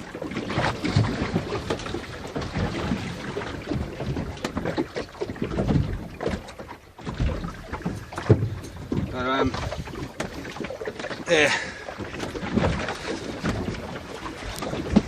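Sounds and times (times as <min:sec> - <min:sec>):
knocks and rustling on kayak: 0:00.0 - 0:15.0.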